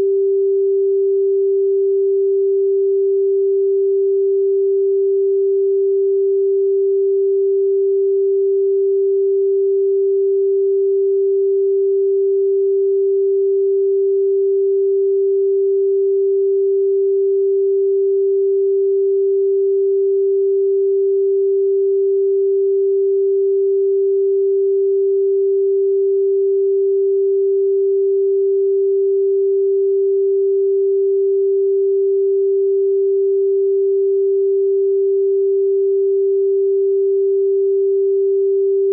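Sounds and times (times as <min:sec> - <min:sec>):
pure sine tone: 0:00.0 - 0:38.9.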